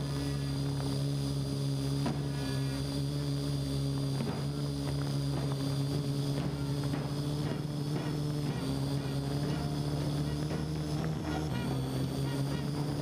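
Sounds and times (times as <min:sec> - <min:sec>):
drone rotors buzzing: 0:00.0 - 0:13.0.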